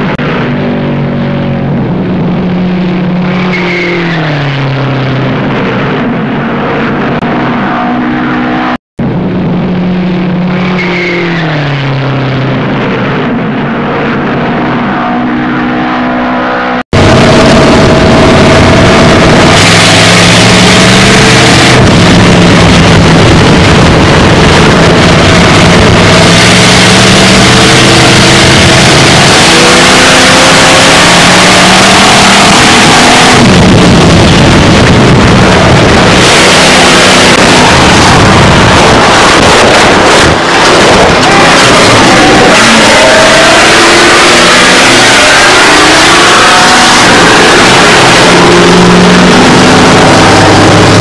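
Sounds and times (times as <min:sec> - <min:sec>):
stock car engine: 0:00.0 - 0:51.0
wind and track noise: 0:00.0 - 0:51.0.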